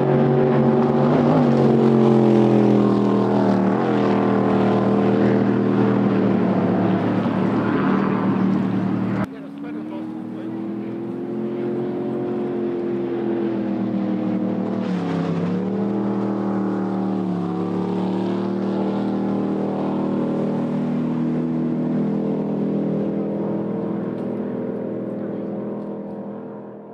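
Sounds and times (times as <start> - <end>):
jet boat engine passing: 0.0 - 26.9.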